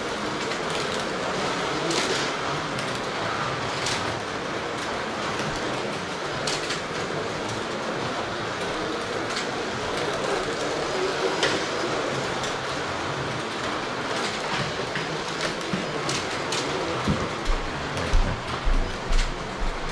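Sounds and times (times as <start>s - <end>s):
slot cars whirring: 0.0s - 19.6s.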